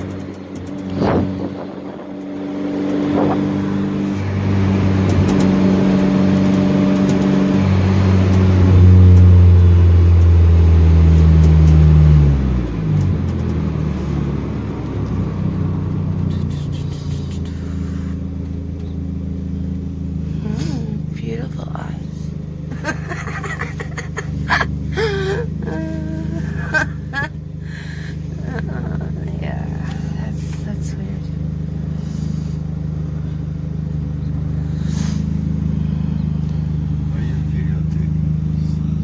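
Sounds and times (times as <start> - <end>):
car engine under load: 0.0 - 39.0.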